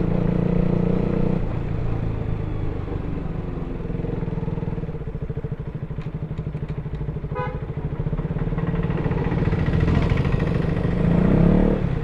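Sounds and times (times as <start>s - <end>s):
motorcycle engine throbbing: 0.0s - 12.0s.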